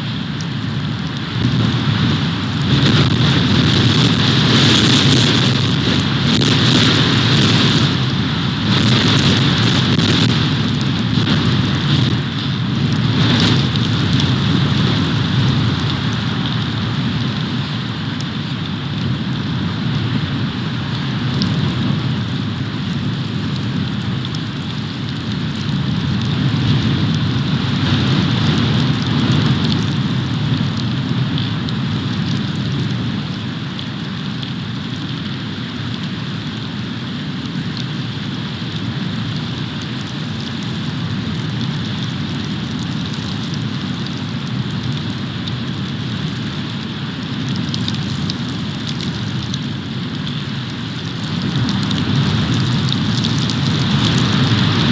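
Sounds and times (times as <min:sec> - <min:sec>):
wind and precipitation noise: 0:00.0 - 0:54.9.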